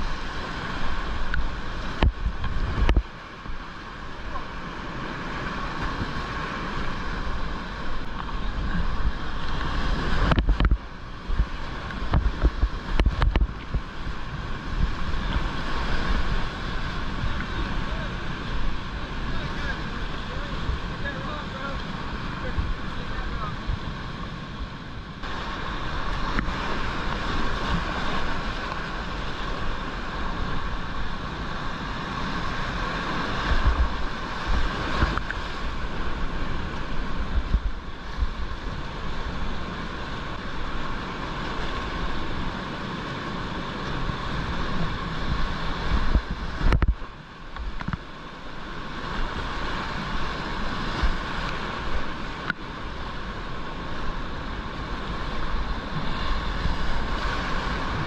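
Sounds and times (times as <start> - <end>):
low thumps of waves on boat: 0.0 - 58.0
whitewater rapids rushing: 0.0 - 58.0.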